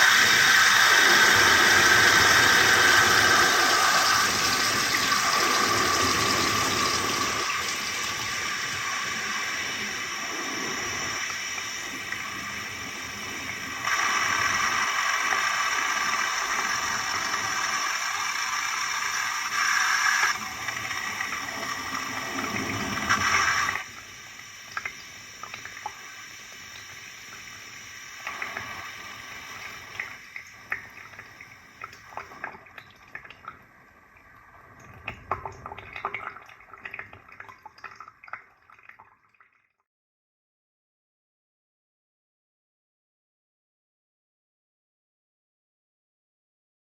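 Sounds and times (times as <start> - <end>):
water running: 0.0 - 39.6
water dripping: 0.1 - 39.7.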